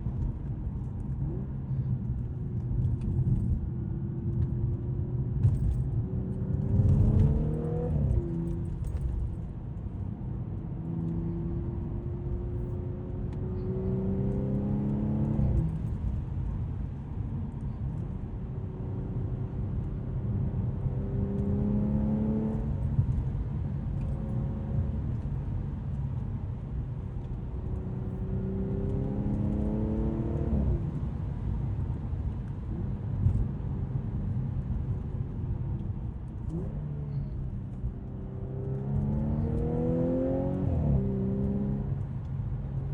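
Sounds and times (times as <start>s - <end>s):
car engine accelerating: 0.0s - 42.9s
road rumble: 0.0s - 42.9s.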